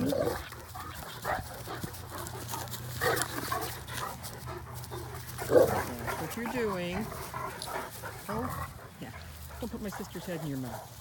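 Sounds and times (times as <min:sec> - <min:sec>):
dogs panting: 0:00.0 - 0:11.0
dogs scuffling: 0:00.0 - 0:11.0.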